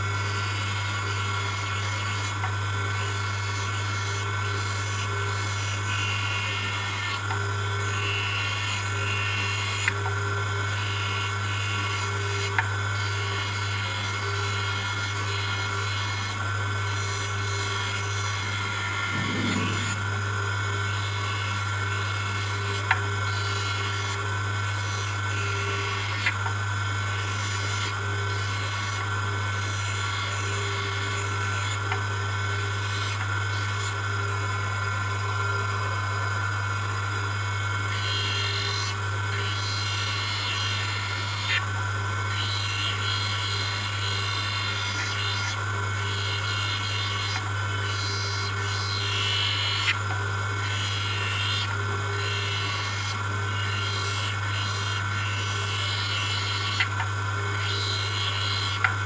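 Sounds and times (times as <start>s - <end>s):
motor humming: 0.0s - 59.0s.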